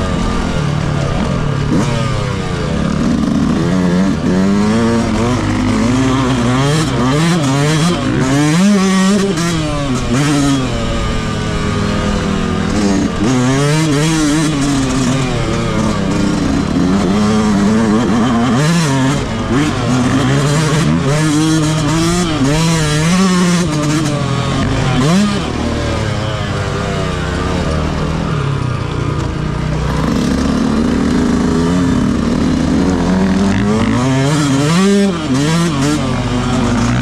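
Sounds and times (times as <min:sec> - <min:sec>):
two-stroke motorcycle revving: 0:00.0 - 0:37.0.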